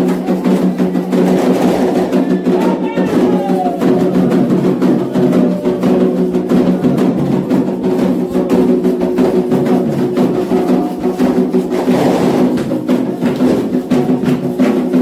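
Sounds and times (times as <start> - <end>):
hand drums playing fast rhythm: 0.0 - 15.0.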